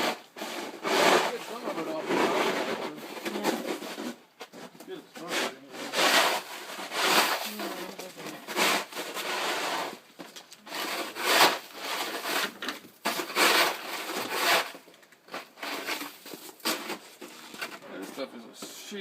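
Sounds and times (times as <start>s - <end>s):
shovel scraping frozen snow: 0.0s - 4.2s, 5.1s - 18.2s.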